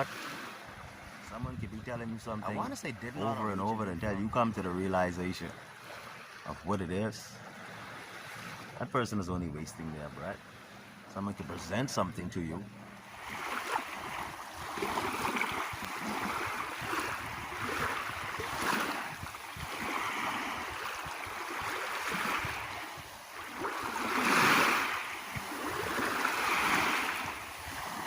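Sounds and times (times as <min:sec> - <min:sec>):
small waves washing: 0:00.0 - 0:28.0.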